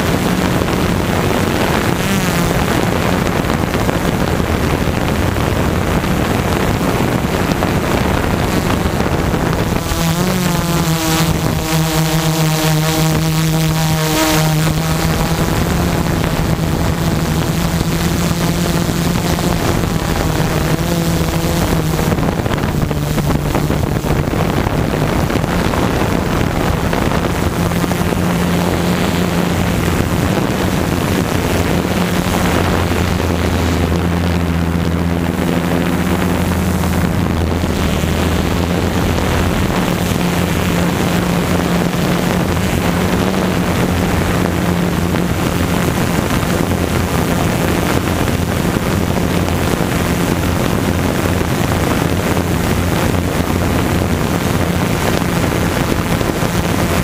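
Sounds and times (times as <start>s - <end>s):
drone propellers buzzing: 0.0s - 57.0s
wind noise on microphone: 0.0s - 57.0s.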